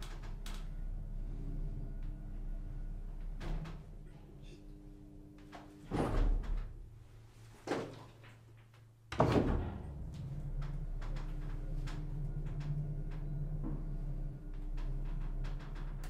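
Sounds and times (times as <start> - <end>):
low motor hum: 0.0 - 7.0, 9.5 - 16.0.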